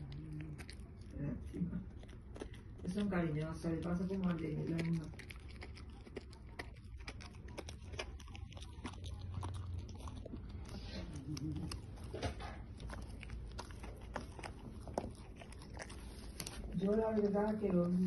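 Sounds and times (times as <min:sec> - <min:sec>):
dog gnawing chew stick: 0:00.0 - 0:18.0.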